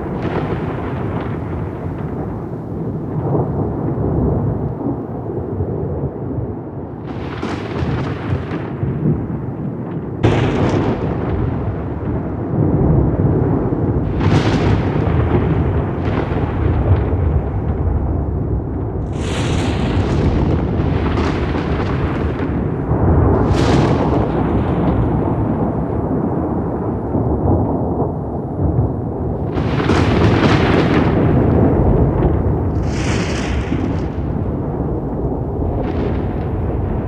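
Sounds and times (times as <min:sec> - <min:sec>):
crackling thunder cracks: 0:00.0 - 0:37.0
thunder rumbling: 0:00.0 - 0:37.0.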